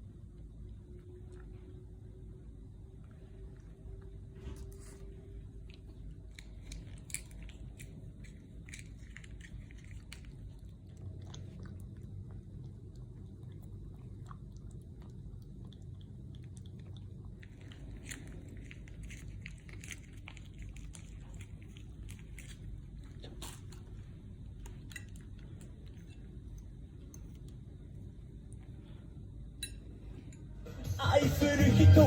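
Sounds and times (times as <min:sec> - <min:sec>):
cat chewing and lapping: 0:00.0 - 0:30.3.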